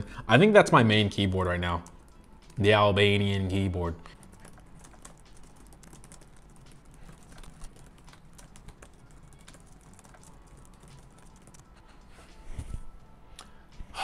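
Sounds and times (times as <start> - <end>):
soft keyboard typing: 0.5 - 13.1.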